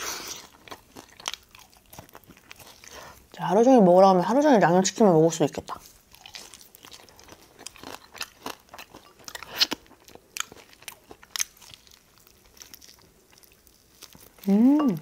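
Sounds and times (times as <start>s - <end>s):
person chewing: 0.0s - 3.4s, 5.5s - 15.0s
crunching fried chicken: 0.0s - 3.5s, 5.6s - 15.0s.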